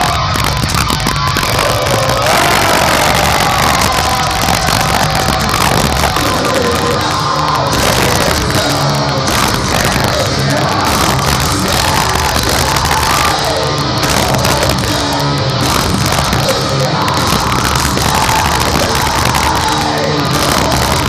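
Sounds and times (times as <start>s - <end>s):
heavy metal band playing live: 0.0s - 21.0s.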